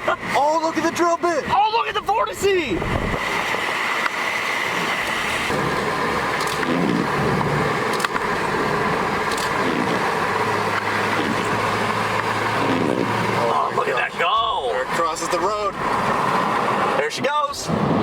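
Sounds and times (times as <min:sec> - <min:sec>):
car running: 0:00.0 - 0:18.0.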